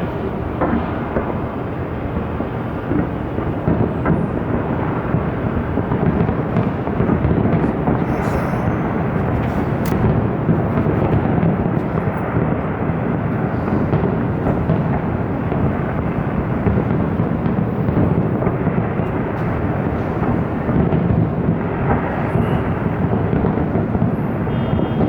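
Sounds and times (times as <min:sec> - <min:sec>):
faint firework crackles: 0:00.0 - 0:25.0
fireworks booming: 0:00.0 - 0:25.0.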